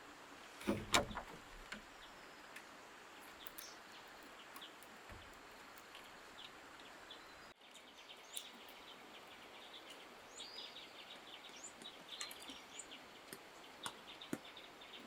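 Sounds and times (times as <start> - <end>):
steady outdoor hiss: 0.0 - 15.0
small birds chirping: 0.6 - 15.0.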